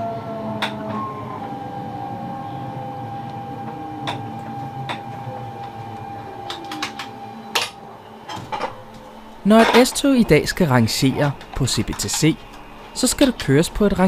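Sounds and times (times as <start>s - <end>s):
electric train whine and rumble: 0.0s - 14.0s.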